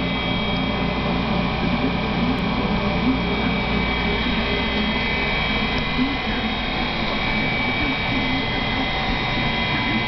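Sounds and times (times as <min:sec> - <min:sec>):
faint steady high tones: 0:00.0 - 0:10.0
fan whirring hum: 0:00.0 - 0:10.0.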